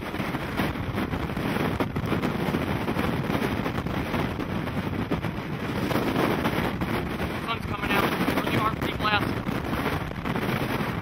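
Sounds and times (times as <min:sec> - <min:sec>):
storm wind gusting on microphone: 0:00.0 - 0:11.0.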